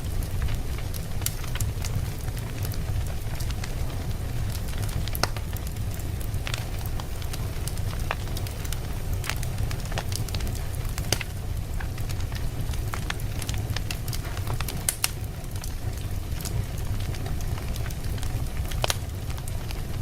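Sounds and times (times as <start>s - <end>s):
logs crackling and popping: 0.0s - 20.0s
low rumble of flame: 0.0s - 20.0s.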